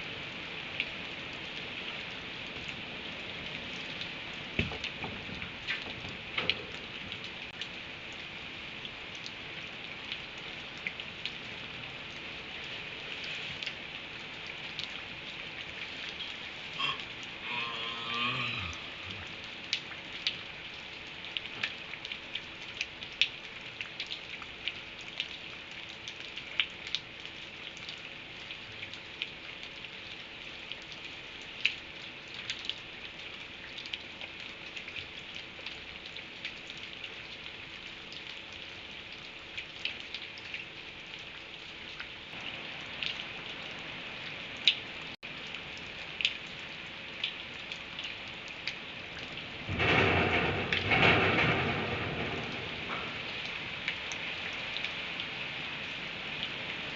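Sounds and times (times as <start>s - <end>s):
raindrops ticking on hard surface: 0.0s - 56.9s
steady rain falling: 0.0s - 56.9s.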